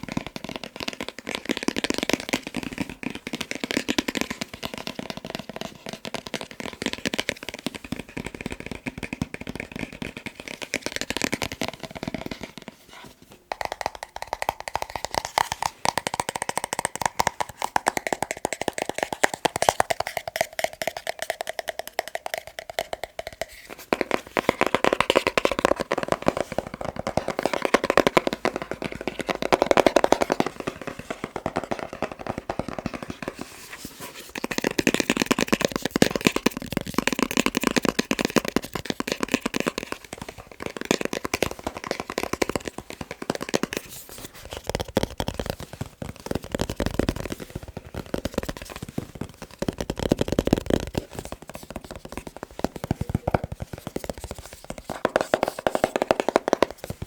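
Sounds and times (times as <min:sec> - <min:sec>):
fingers tapping on objects: 0:00.0 - 0:12.8, 0:13.5 - 0:57.0.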